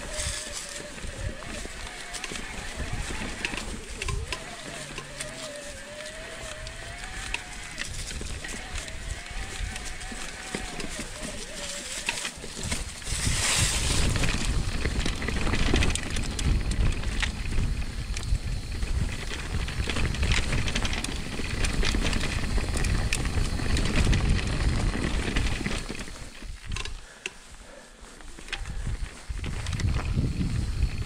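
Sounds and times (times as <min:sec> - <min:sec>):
wind buffeting microphone: 0:00.0 - 0:11.8, 0:12.6 - 0:26.9, 0:28.6 - 0:31.0
bike clicks and rattles: 0:00.0 - 0:31.0
tyres crunching over gravel: 0:00.0 - 0:31.0.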